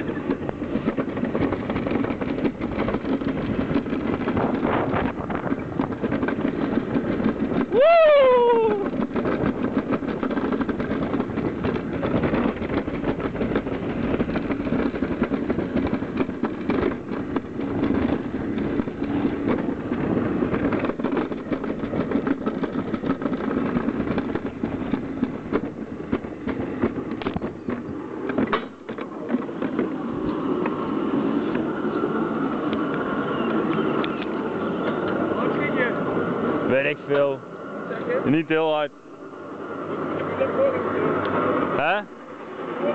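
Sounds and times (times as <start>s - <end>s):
sled rattling on metal track: 0.0s - 42.9s.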